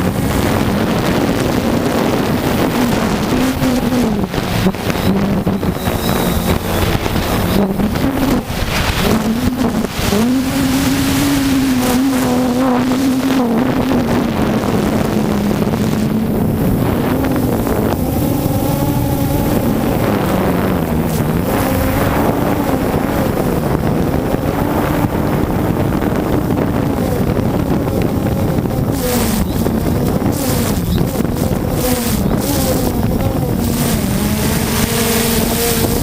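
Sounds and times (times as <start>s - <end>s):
drone propellers humming: 0.0s - 36.0s
wind buffeting microphone: 0.0s - 36.0s.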